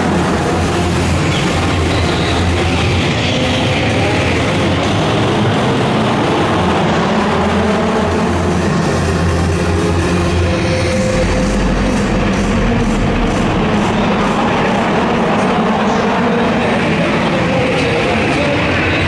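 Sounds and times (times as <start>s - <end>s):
loud music over loudspeakers: 0.0s - 19.0s
racing car engines: 0.0s - 19.0s.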